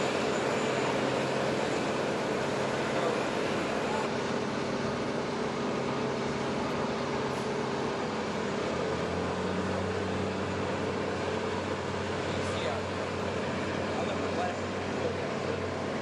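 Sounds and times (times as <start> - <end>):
aircraft machinery drone: 0.0 - 16.0.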